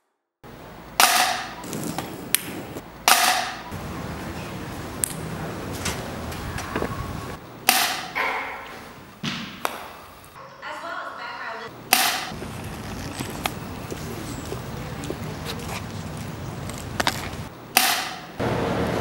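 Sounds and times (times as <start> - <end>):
balls striking hard surfaces: 1.0 - 10.4, 11.9 - 18.4.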